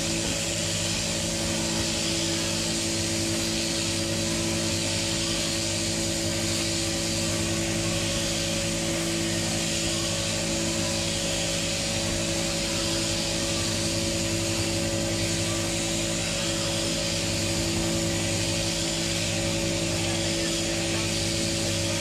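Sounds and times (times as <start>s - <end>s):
shearing machinery hum: 0.0s - 22.0s.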